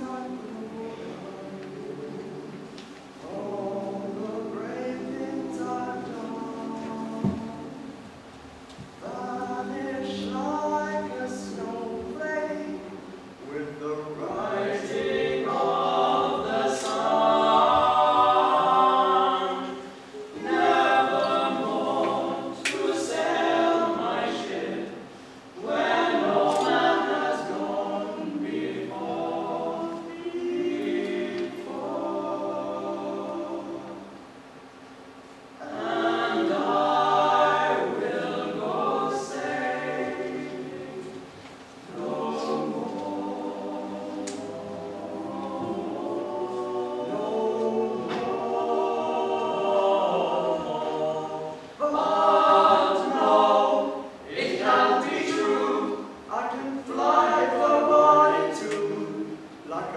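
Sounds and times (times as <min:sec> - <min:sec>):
male voices singing in harmony: 0:00.0 - 0:08.0, 0:09.0 - 0:34.1, 0:35.6 - 0:59.9.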